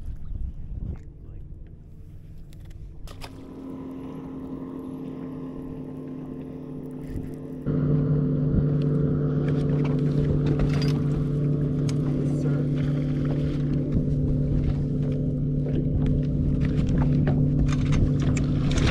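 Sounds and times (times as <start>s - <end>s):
electric trolling motor humming: 1.1s - 18.9s.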